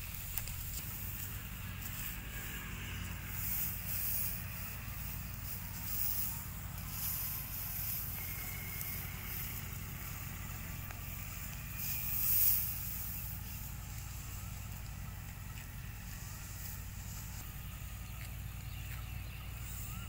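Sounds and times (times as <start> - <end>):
dry wheat stalks rustling: 0.0 - 20.0
steady low rumble: 0.0 - 20.0.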